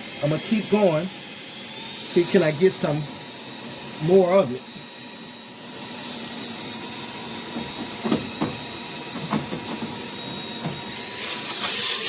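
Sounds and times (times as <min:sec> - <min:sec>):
vacuum cleaner hissing through hose: 0:00.0 - 0:12.0.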